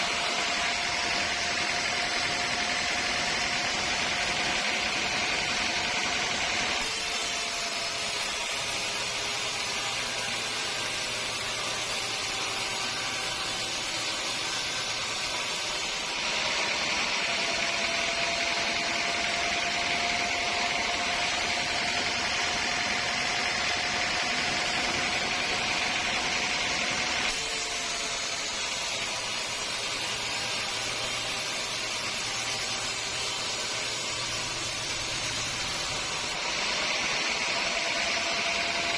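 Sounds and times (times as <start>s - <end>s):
saw cutting whine: 0.0s - 38.9s
sawmill machinery drone with hiss: 0.0s - 38.9s.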